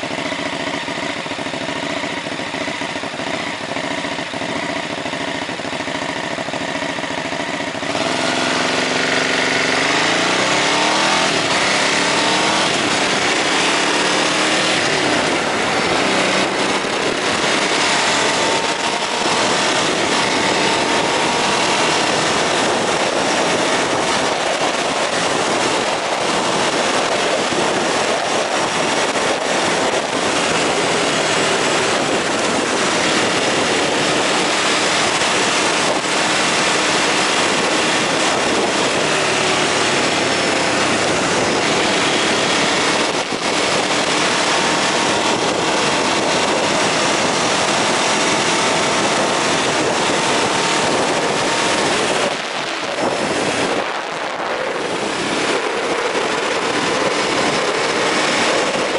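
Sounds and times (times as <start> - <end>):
motorcycle engine accelerating: 0.0 - 58.9
wind rush over microphone: 0.0 - 58.9.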